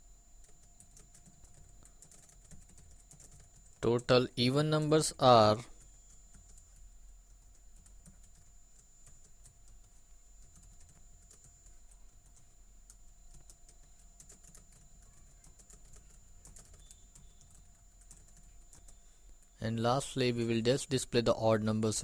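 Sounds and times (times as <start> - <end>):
keyboard typing: 0.4 - 22.0.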